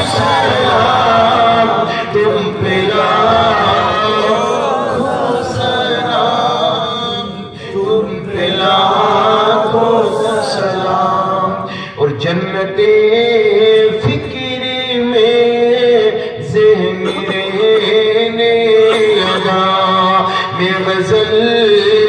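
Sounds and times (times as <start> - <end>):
man chanting into microphone: 0.0 - 22.0.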